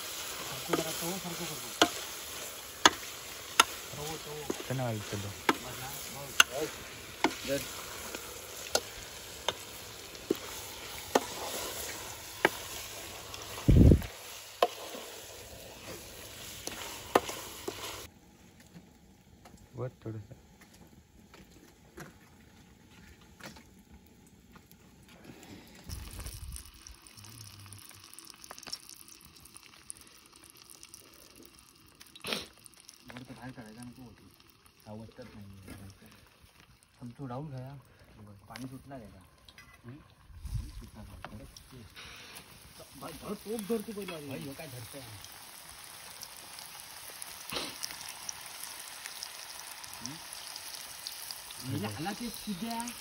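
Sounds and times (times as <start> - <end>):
faint sizzle: 0.0 - 53.0.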